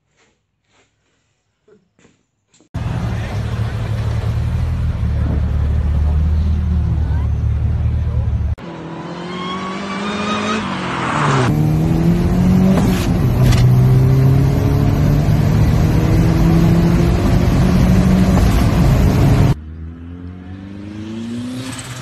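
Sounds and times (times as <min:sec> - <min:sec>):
car engine accelerating: 0:02.8 - 0:22.0.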